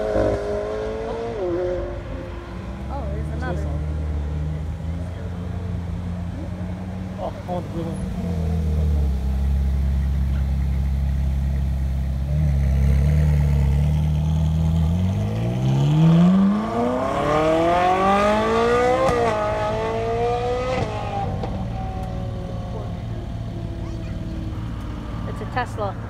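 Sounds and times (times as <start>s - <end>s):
sports car engine revving: 0.0s - 25.6s.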